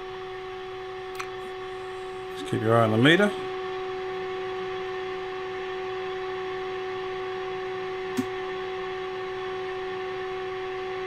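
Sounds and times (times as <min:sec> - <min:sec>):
steady test tone from loudspeaker: 0:00.0 - 0:11.0.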